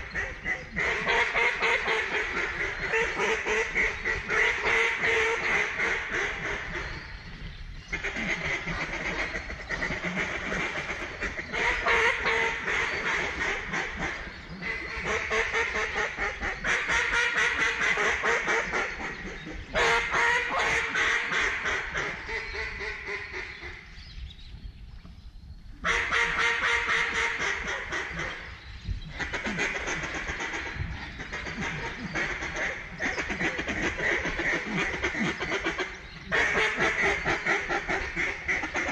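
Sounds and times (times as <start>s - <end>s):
ducks quacking: 0.0s - 24.0s, 25.8s - 38.9s.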